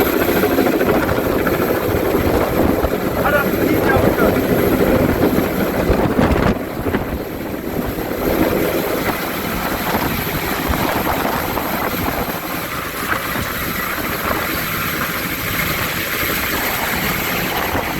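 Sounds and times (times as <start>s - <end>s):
helicopter rotor and engine: 0.0s - 17.9s.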